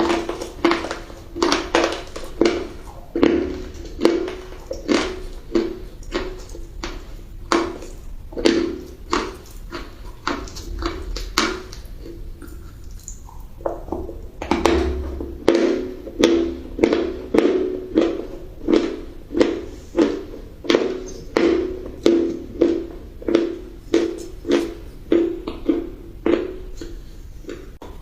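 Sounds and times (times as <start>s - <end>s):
crunchy food chewing: 0.0s - 14.3s, 15.5s - 28.0s.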